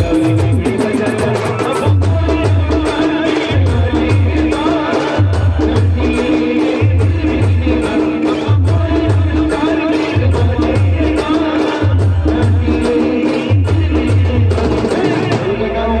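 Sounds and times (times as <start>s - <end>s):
percussion beat: 0.0s - 15.8s
deep bass pattern: 0.0s - 16.0s.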